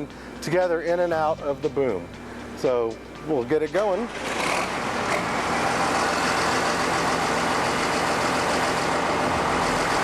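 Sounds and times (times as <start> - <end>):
tractor engine running: 1.9 - 10.0.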